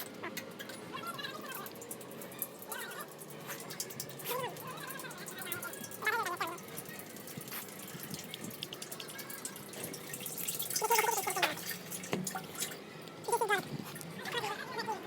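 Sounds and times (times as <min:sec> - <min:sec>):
liquid dripping and trickling: 0:00.0 - 0:14.5.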